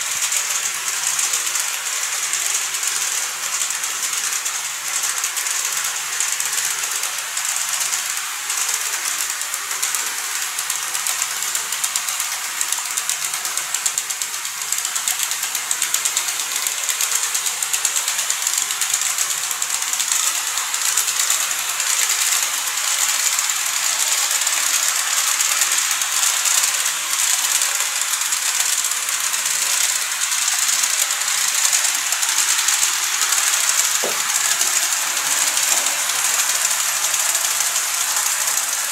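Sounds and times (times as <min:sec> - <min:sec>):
model train wheels clicking on track: 0:00.0 - 0:38.9.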